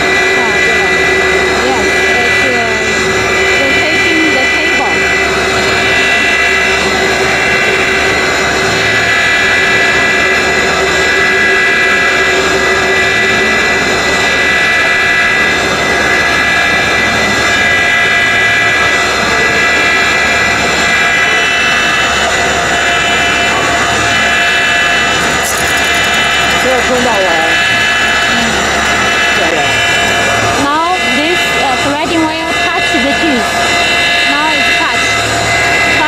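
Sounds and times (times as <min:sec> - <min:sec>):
grinding wheel whining: 0:00.0 - 0:36.0.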